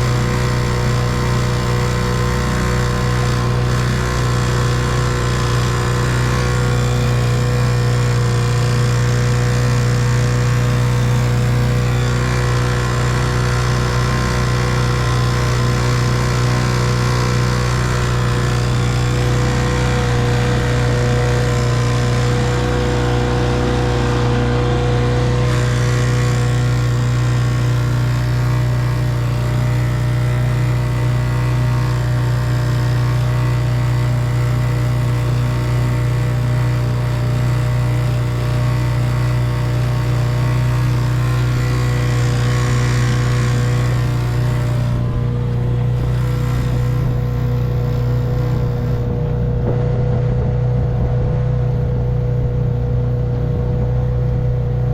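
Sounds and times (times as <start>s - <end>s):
outboard motor running: 0.0s - 54.9s.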